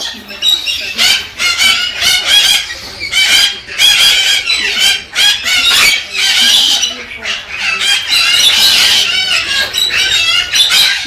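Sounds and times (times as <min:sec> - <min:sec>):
cockatoo calling: 0:00.0 - 0:11.0.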